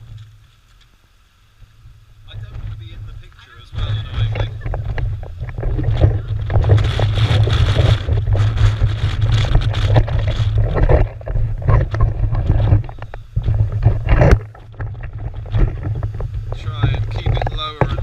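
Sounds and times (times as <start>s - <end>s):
strong wind on microphone: 2.3s - 18.0s.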